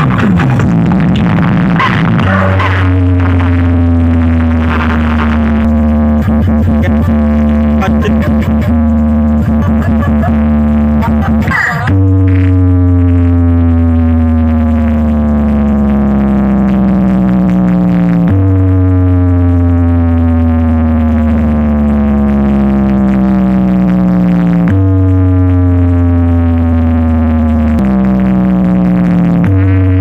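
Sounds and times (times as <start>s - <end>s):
distorted synth tone sliding down: 0.0s - 30.0s
heavy sustained bass: 0.0s - 30.0s.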